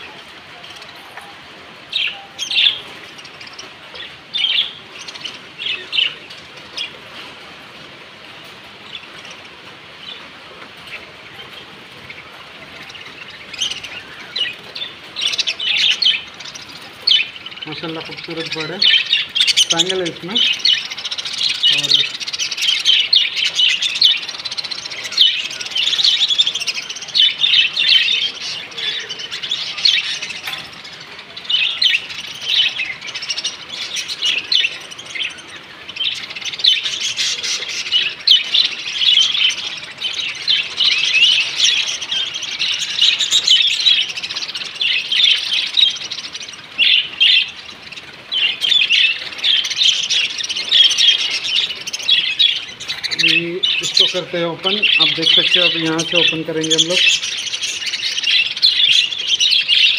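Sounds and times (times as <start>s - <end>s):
budgerigars chattering: 0.0s - 7.3s, 10.8s - 59.9s.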